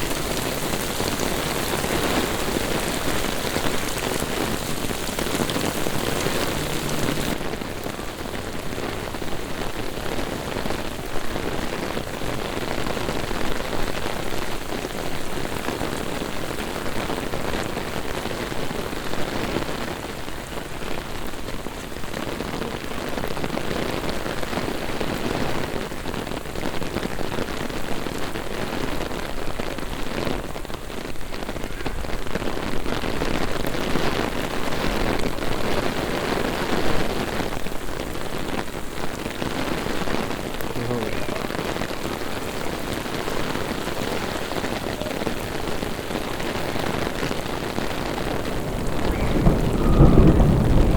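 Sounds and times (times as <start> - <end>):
heavy rain on pavement: 0.0 - 50.9.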